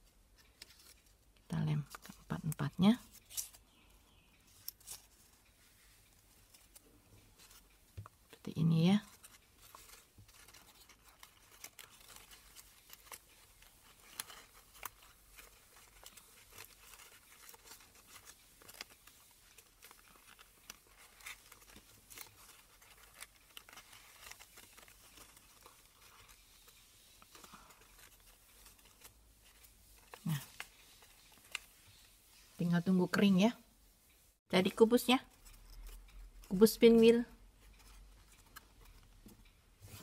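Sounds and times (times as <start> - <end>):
paper crinkling and clicking: 0.3 - 3.6, 4.4 - 32.2, 35.2 - 40.0.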